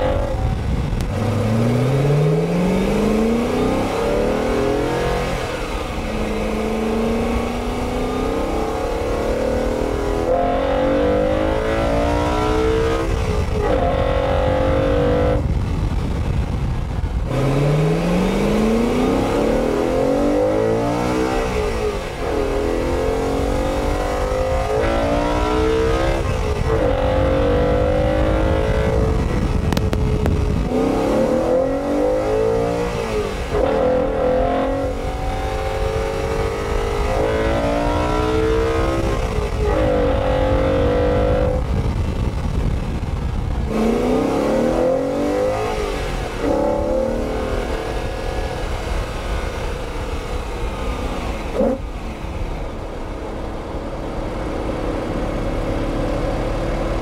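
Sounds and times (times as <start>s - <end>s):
car engine accelerating through gears: 0.0s - 16.4s, 17.0s - 57.0s.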